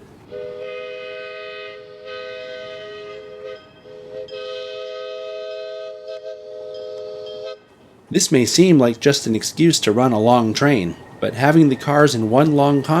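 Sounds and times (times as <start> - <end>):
locomotive chime whistle: 0.3 - 7.7, 9.8 - 13.0.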